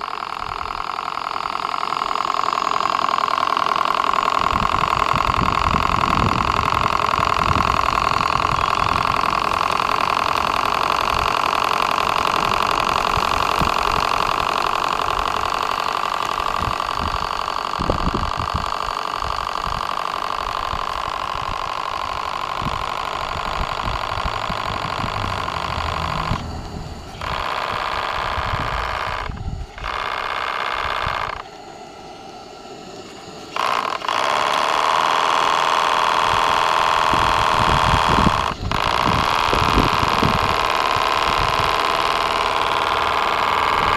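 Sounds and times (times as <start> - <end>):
steam engine hissing: 0.0 - 43.9.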